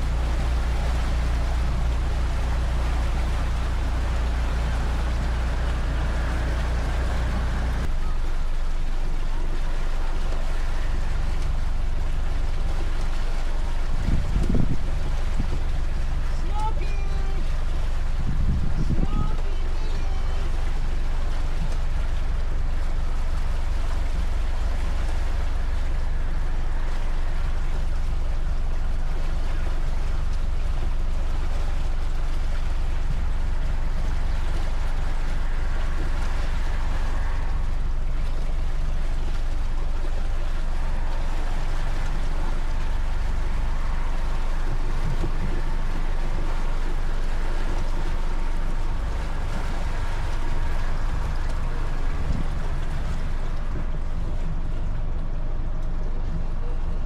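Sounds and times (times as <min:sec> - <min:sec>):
boat engine droning: 0:00.0 - 0:57.0
water rushing along hull: 0:00.0 - 0:57.0.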